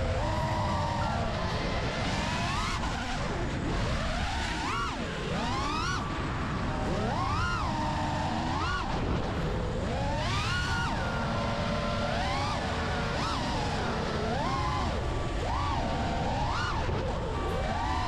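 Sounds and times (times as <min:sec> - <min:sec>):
drone motors whining: 0:00.0 - 0:18.0
rush of wind: 0:00.0 - 0:18.0.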